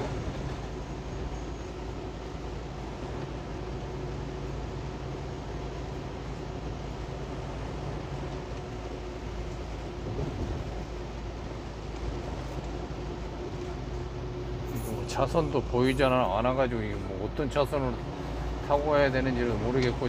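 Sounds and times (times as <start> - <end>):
truck engine drone: 0.0 - 20.0
tyres on wet road: 0.0 - 20.0.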